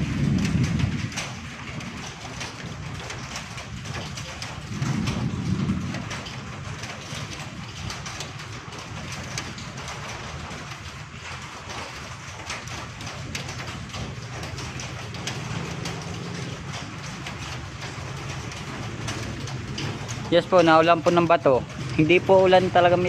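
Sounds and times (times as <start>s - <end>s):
low rumbles: 0.0s - 11.4s, 12.1s - 23.0s.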